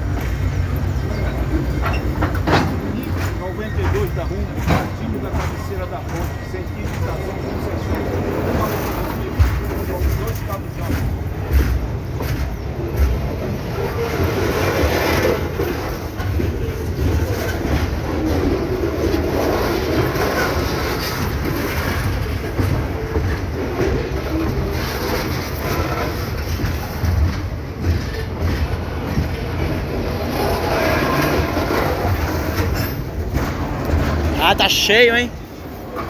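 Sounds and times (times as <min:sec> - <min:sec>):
freight train rumbling past: 0:00.0 - 0:36.0
train wheels clacking: 0:00.0 - 0:36.0.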